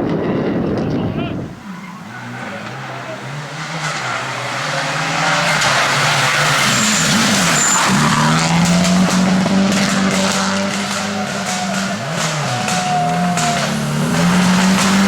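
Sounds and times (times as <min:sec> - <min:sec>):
rally car engine: 0:00.0 - 0:15.0
tyre noise rushing: 0:00.0 - 0:15.0.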